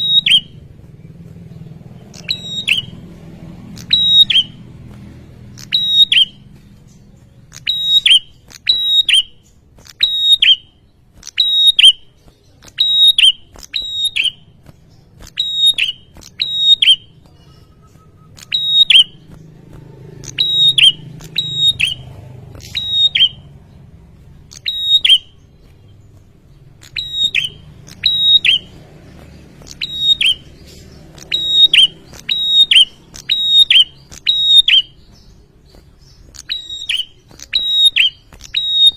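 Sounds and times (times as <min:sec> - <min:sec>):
bird high sharp chirps: 0:00.0 - 0:38.9.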